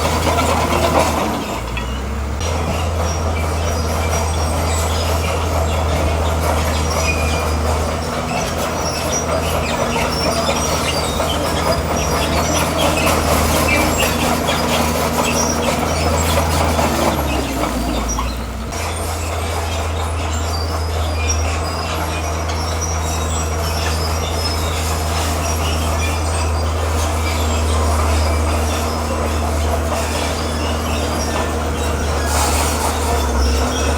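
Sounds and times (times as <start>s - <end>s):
bulldozer diesel engine: 0.0s - 33.9s
steel tracks squealing and clanking: 0.0s - 33.9s.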